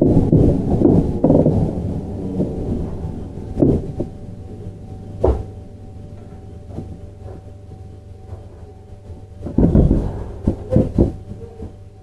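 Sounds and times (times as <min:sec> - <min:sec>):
steady electric whine: 0:00.0 - 0:12.0
thumps: 0:00.0 - 0:12.0
train running gear rumble: 0:00.0 - 0:12.0.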